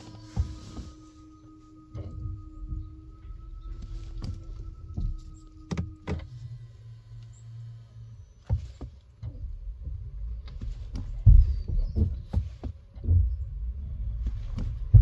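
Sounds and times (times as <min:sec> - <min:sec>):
faint steady tone: 0:00.0 - 0:12.2
car low rumble: 0:00.0 - 0:15.0
low hum: 0:00.0 - 0:15.0.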